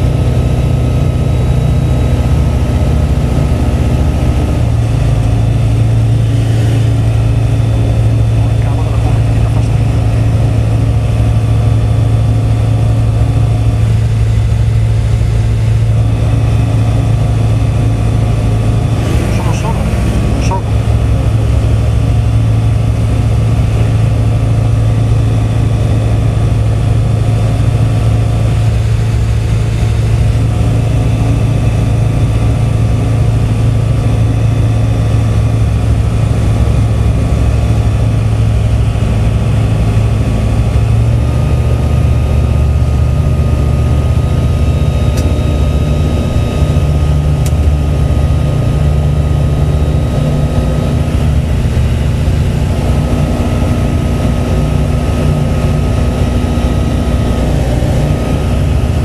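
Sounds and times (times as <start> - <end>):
propeller engine drone: 0.0 - 59.0.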